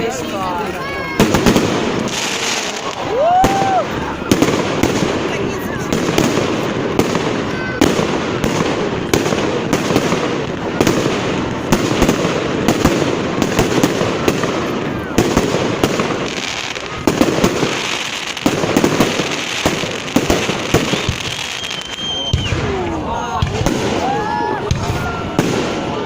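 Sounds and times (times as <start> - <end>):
fireworks bangs and pops: 0.0 - 26.0
spectators' voices: 0.0 - 26.0.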